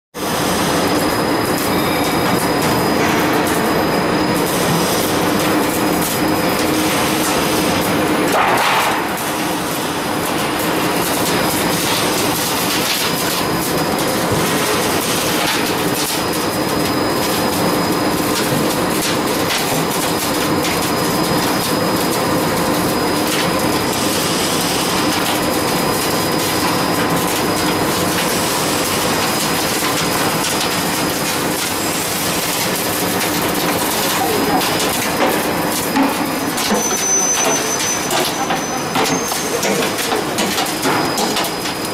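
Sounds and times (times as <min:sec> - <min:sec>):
roll forming machine clatter: 0:00.2 - 0:41.9.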